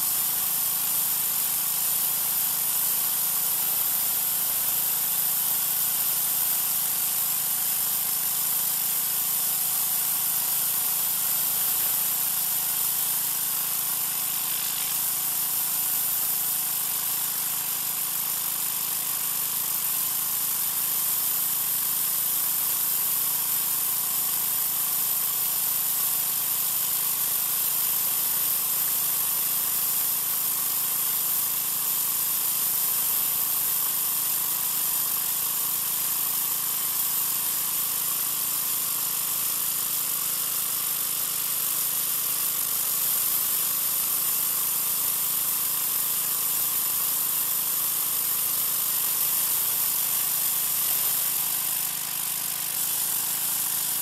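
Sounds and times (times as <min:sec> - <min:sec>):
pressure washer engine running: 0:00.0 - 0:54.0
water jet hissing on concrete: 0:00.0 - 0:54.0.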